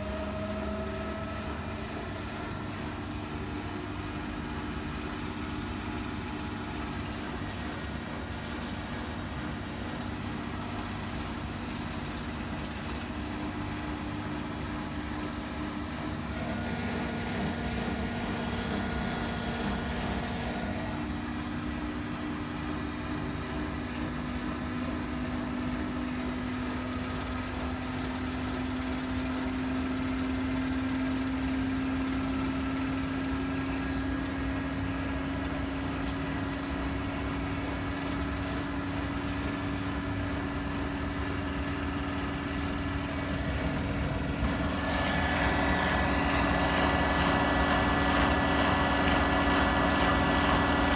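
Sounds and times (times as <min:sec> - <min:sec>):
washing machine drain pump humming: 0:00.0 - 0:50.9.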